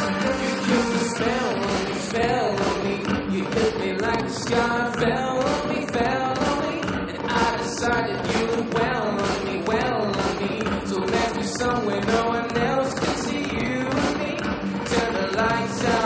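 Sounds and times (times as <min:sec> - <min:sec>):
live pop band playing: 0:00.0 - 0:16.0
person singing: 0:00.0 - 0:16.0.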